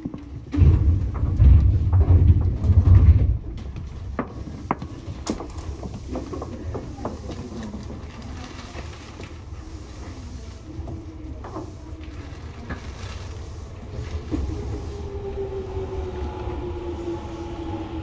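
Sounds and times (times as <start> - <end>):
heavy low train rumble: 0.0 - 18.0
train running noise: 0.0 - 18.0.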